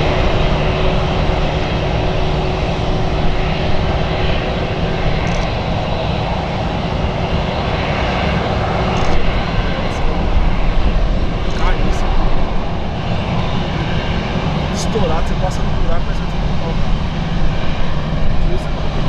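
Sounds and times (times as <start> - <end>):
jet airliner engines: 0.0 - 19.0.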